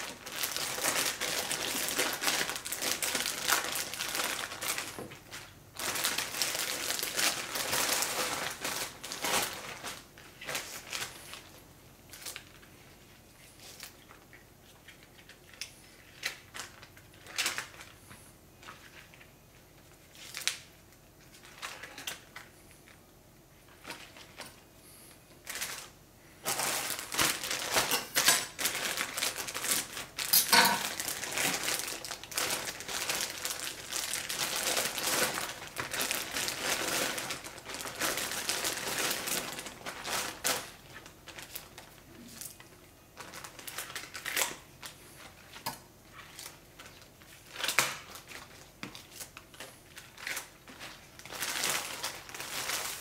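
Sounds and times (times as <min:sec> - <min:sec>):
plastic bag crinkling: 0:00.0 - 0:23.0, 0:23.6 - 0:53.0.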